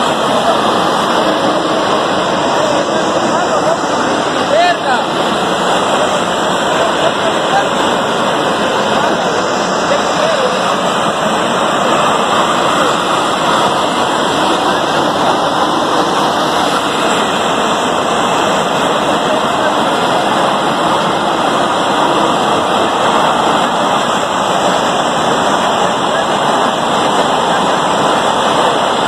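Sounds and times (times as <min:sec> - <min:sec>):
steam hissing from pipe: 0:00.0 - 0:29.0.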